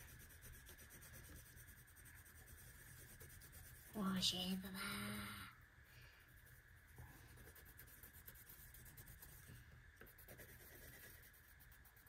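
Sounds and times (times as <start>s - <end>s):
marker scratching on paper: 0.0s - 4.2s, 6.3s - 12.0s.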